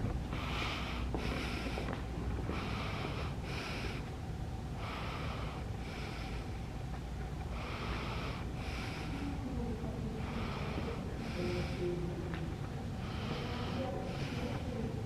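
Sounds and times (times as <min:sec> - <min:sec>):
person breathing heavily: 0:00.0 - 0:04.1, 0:04.7 - 0:12.3, 0:13.0 - 0:15.0.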